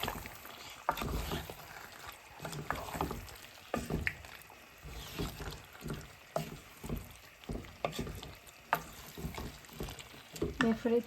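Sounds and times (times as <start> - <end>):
wet food sloshing in pot: 0.0 - 11.0
spoon scraping and knocking pot: 0.8 - 4.2, 4.8 - 10.8.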